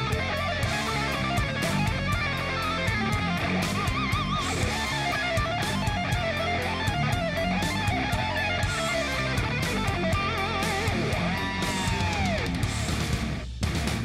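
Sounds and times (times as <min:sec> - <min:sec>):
electric guitar: 0:00.0 - 0:14.0
steady drum beat: 0:00.0 - 0:14.0.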